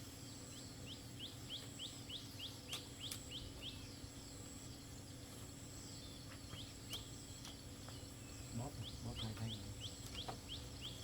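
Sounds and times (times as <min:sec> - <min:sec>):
bird chirping: 0:00.0 - 0:11.0
faint background hum: 0:00.0 - 0:11.0.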